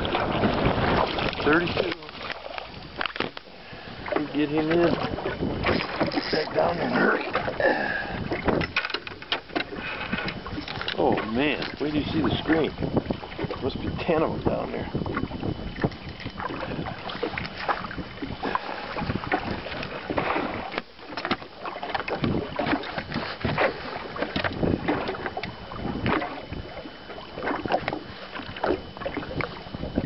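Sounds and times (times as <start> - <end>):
water slapping against boat hull: 0.0 - 30.0
wind on microphone: 0.0 - 30.0.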